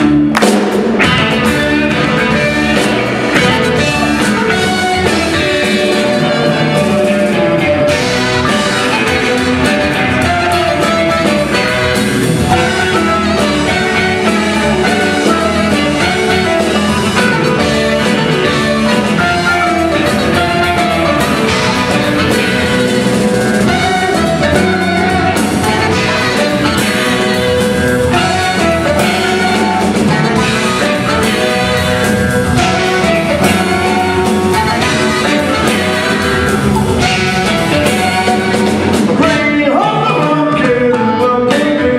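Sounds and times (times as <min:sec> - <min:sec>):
bass guitar: 0:00.0 - 0:41.9
drum kit: 0:00.0 - 0:41.9
electric guitar: 0:00.0 - 0:41.9
saxophones: 0:01.0 - 0:41.8
marimba: 0:01.0 - 0:41.9.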